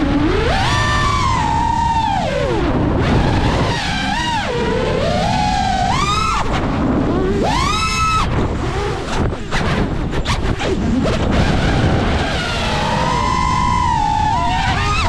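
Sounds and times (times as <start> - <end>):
drone motor whine: 0.0 - 15.0.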